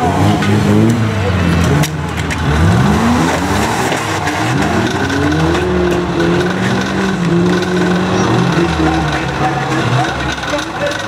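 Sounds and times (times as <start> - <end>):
racing car engines revving: 0.0 - 11.0.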